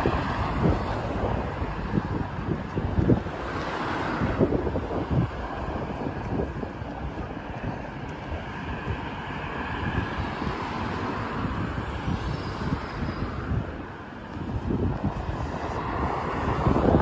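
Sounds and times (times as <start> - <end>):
road traffic noise: 0.0 - 17.0
wind buffeting microphone: 0.0 - 17.0.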